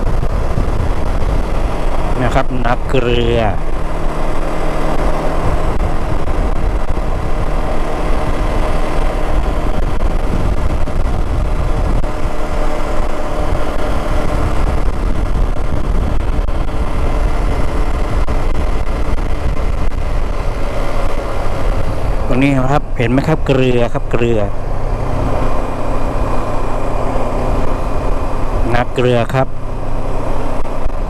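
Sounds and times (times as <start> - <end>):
motorcycle engine running: 0.0 - 31.0
wind noise rumble: 0.0 - 31.0.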